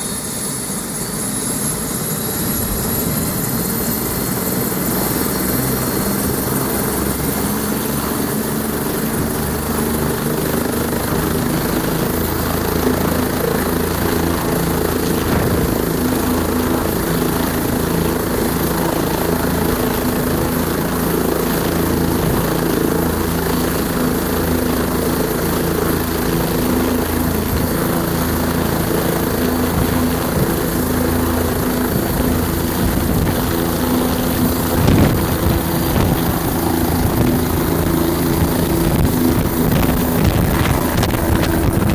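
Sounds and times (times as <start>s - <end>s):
helicopter rotor beating: 0.0s - 41.9s
helicopter turbine whine: 0.0s - 41.9s.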